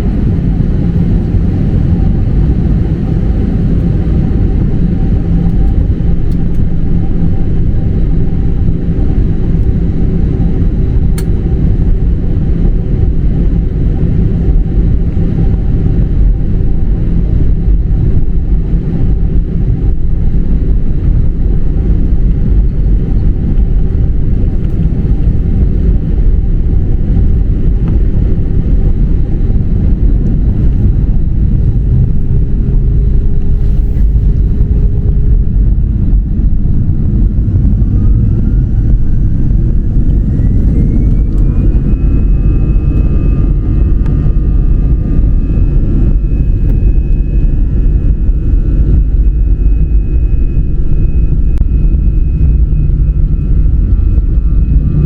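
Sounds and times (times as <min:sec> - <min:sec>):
jet engine whine rising: 0:00.0 - 0:55.0
jet engines rumbling: 0:00.0 - 0:55.0.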